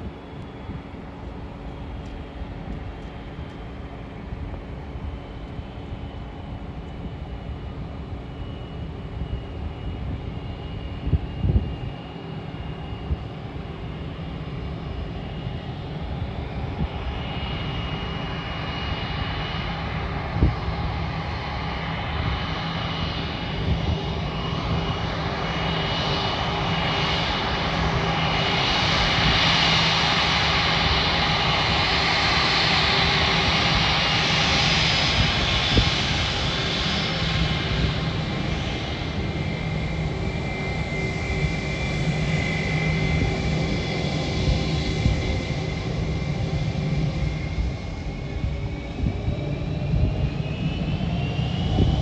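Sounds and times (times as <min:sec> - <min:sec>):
jet engines whining: 0:00.0 - 0:52.0.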